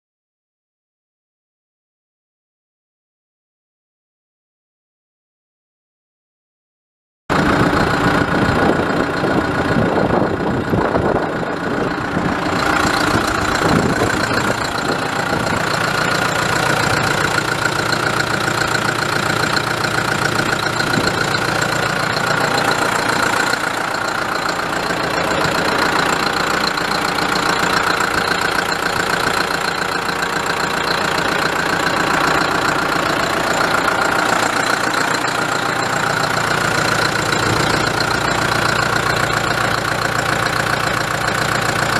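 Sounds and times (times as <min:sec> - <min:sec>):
tractor diesel engine idling: 0:07.3 - 0:41.9.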